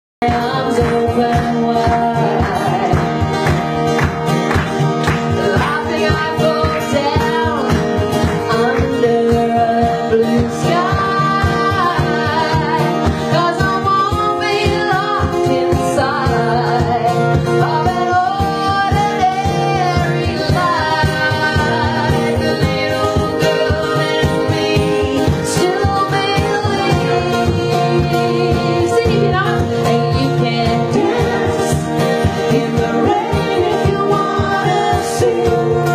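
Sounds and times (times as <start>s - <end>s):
woman singing into microphone: 0.2s - 4.2s, 5.0s - 35.9s
strummed acoustic guitar: 0.2s - 35.9s.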